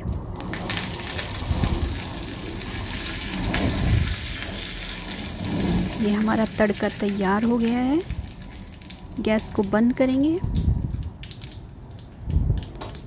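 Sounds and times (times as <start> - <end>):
leaves sizzling in hot fat: 0.0 - 10.9.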